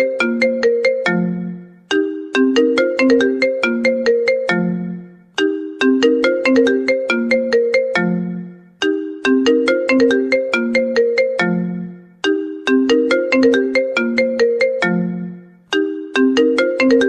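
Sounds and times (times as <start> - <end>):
mobile phone ringtone melody: 0.0 - 17.0.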